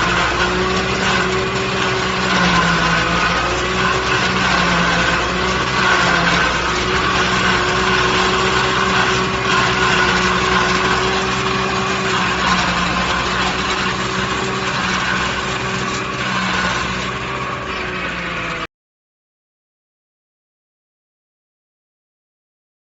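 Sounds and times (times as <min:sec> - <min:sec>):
tractor engine running: 0:00.0 - 0:18.7.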